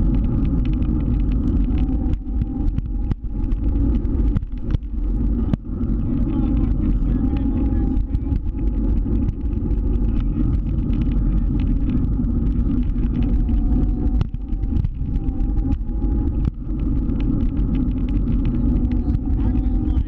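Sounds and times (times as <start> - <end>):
scooter engine rumbling: 0.0 - 20.0.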